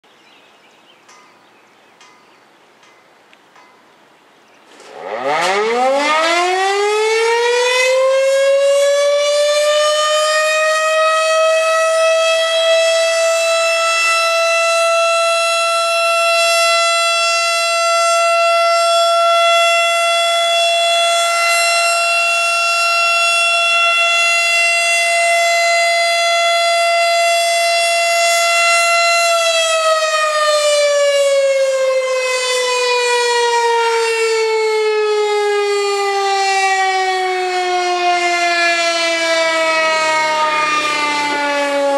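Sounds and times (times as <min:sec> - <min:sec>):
tornado siren winding: 0:04.7 - 0:41.9.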